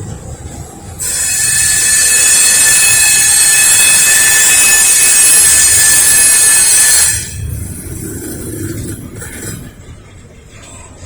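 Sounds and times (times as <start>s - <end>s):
rumble of rolling train cars: 0.0s - 11.0s
train wheels squealing on track: 0.0s - 11.0s.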